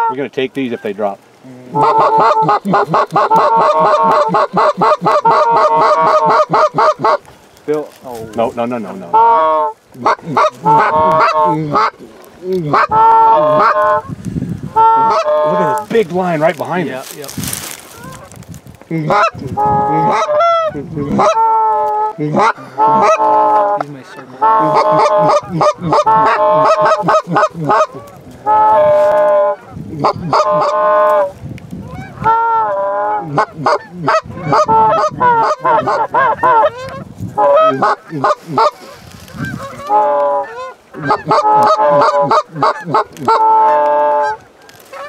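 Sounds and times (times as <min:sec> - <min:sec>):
goose call honking: 0:00.0 - 0:01.0, 0:01.7 - 0:07.3, 0:08.0 - 0:17.0, 0:17.8 - 0:18.3, 0:19.0 - 0:45.0.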